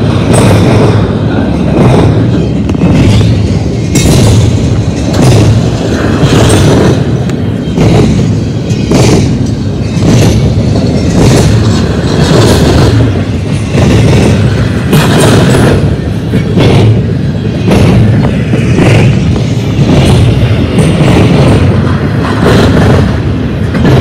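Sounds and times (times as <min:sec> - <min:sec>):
freight train wheels rumbling: 0:00.0 - 0:24.0
wheel clacks on rail: 0:00.0 - 0:24.0.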